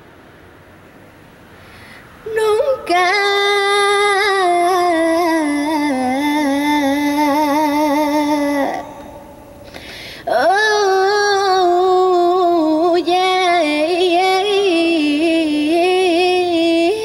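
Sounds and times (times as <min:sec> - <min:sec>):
woman singing through a pa system: 0:02.2 - 0:09.5, 0:10.2 - 0:17.0.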